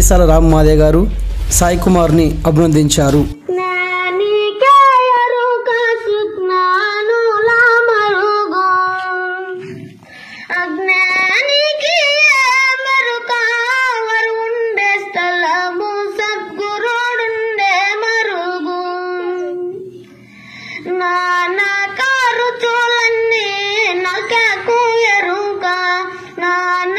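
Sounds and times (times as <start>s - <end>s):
boy singing into microphone: 3.0s - 26.9s.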